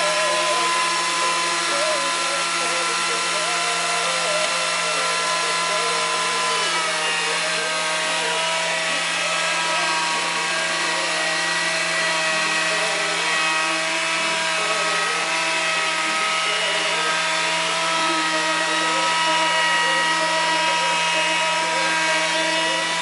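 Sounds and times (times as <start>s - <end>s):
wood lathe motor whine: 0.0s - 23.0s.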